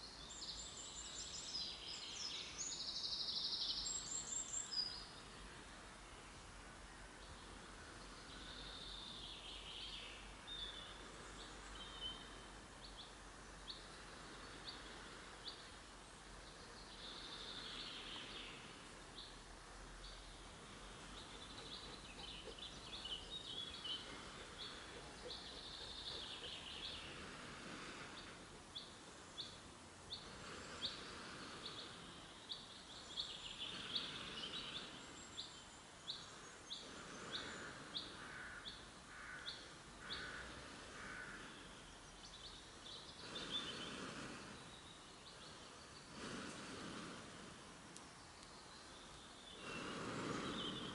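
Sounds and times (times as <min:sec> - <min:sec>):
bird chirping: 0:00.0 - 0:05.4, 0:07.2 - 0:15.8, 0:20.0 - 0:47.1, 0:48.0 - 0:50.9
birds singing: 0:00.0 - 0:50.9.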